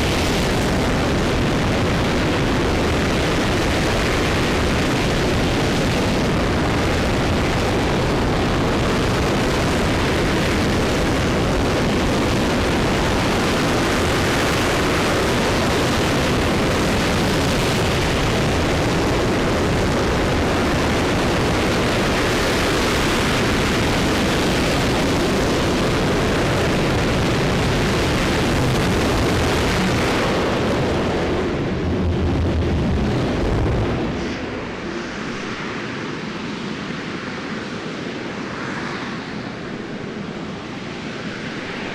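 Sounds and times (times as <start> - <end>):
rocket engine roaring: 0.0 - 41.9.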